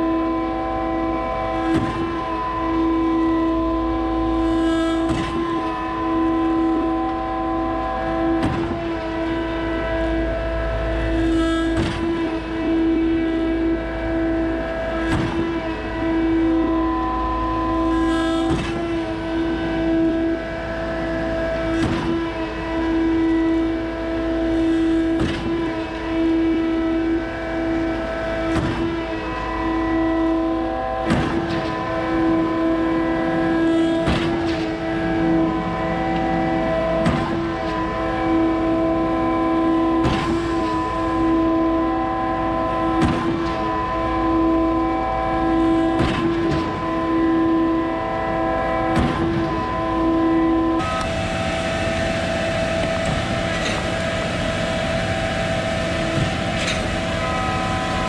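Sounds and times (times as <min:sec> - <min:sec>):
concrete pump truck engine: 0:00.0 - 0:58.0.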